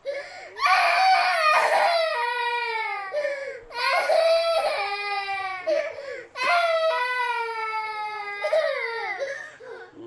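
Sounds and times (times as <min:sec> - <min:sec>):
high-pitched crying wail: 0:00.1 - 0:09.5.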